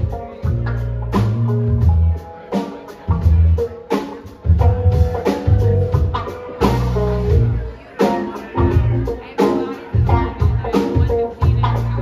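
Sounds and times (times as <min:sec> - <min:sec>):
funk band playing: 0:00.0 - 0:12.0.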